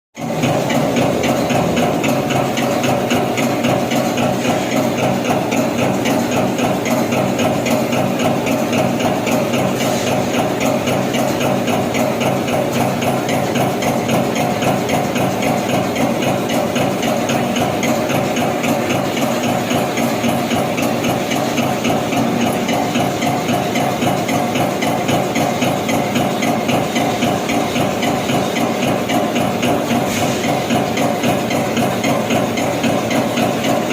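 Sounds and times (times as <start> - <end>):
punch press punching sheet metal: 0.2 - 33.9
machine drive hum and hiss: 0.4 - 13.3, 13.9 - 33.9.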